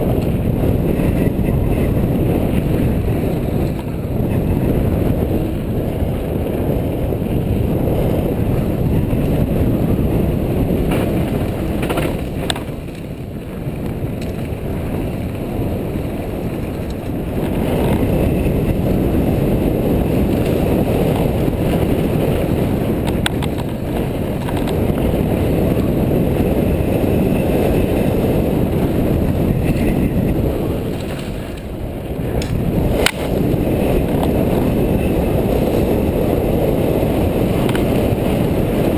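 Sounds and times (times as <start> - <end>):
bike clicks and rattles: 0.0 - 38.9
wind rushing on microphone: 0.0 - 38.9.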